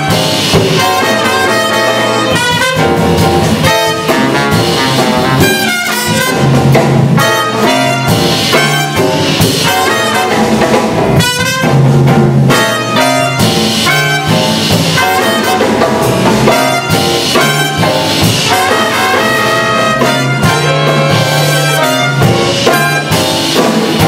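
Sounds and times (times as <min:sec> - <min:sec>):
double bass: 0:00.0 - 0:24.0
jazz orchestra playing: 0:00.0 - 0:24.0
percussion: 0:00.0 - 0:24.0.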